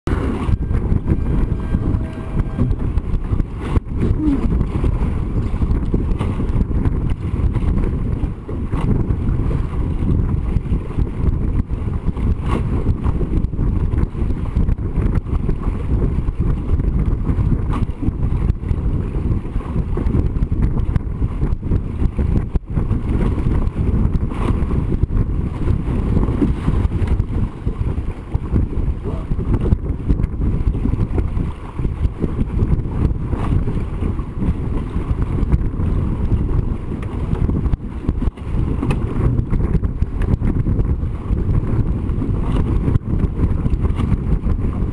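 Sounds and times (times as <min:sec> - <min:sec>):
water rushing along hull: 0:00.0 - 0:44.9
wind rumble on microphone: 0:00.0 - 0:44.9.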